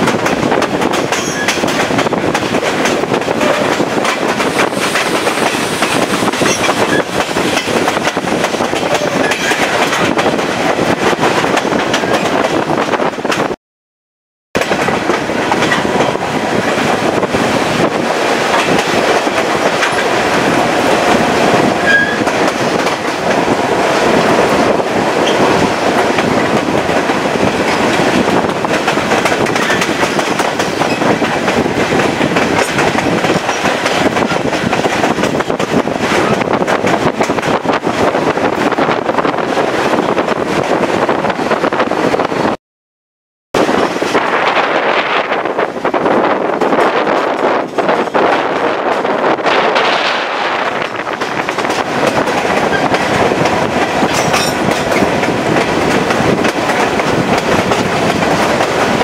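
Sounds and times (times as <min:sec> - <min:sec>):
train wheels on rails: 0:00.0 - 0:13.6, 0:14.6 - 0:42.6, 0:43.6 - 0:59.0.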